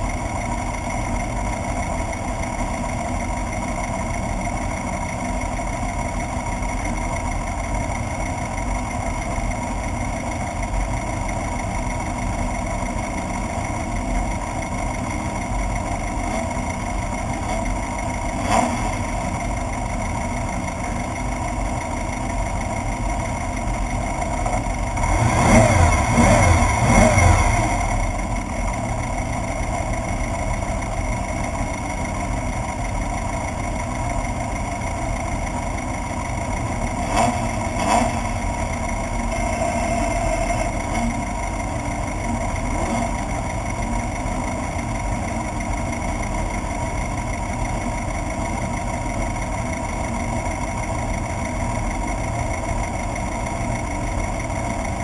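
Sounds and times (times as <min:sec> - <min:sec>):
buggy engine running: 0:00.0 - 0:55.0.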